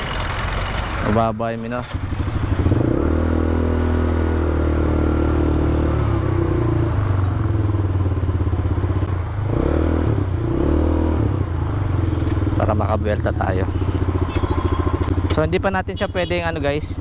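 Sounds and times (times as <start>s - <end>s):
atv engine running at low revs: 0.0s - 17.0s.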